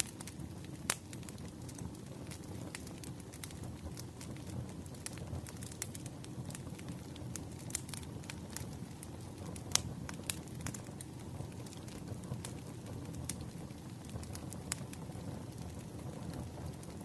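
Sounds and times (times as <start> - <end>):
campfire crackling: 0.0 - 17.0
fire pops and snaps: 0.0 - 17.0.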